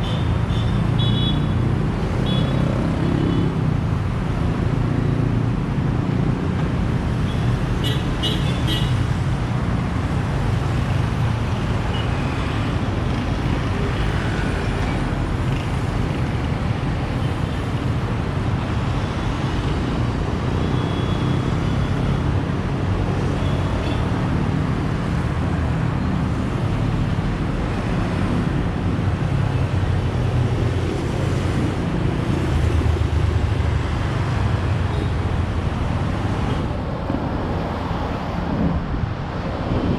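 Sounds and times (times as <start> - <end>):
city road traffic: 0.0 - 39.9.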